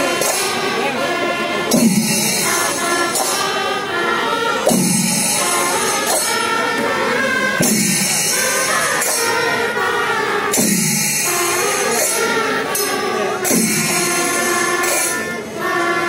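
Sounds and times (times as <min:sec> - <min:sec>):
sung melody over percussion: 0:00.0 - 0:16.0.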